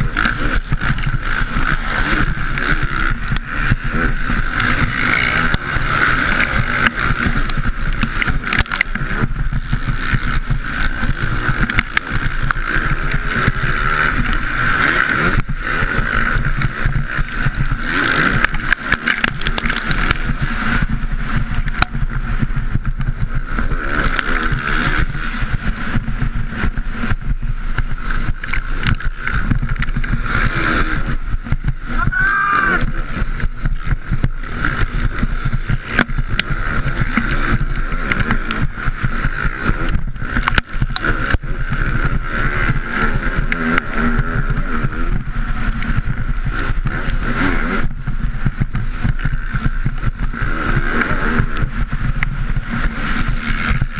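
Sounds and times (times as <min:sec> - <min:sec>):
dirt bike engine running hard: 0:00.0 - 0:53.9.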